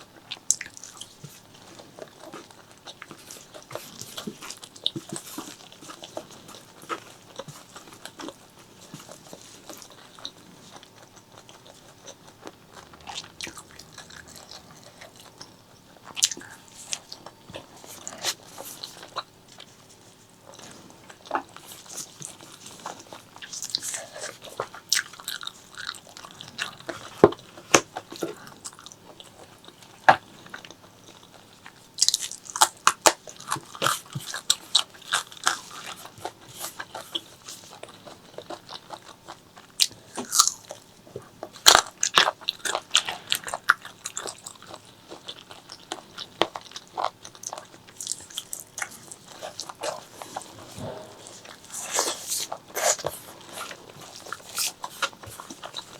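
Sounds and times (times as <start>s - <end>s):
chewing and biting: 0.0s - 51.2s.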